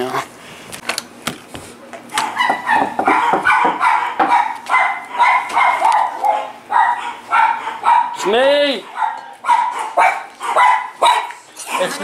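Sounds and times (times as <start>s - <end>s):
dog barking: 2.1s - 12.0s.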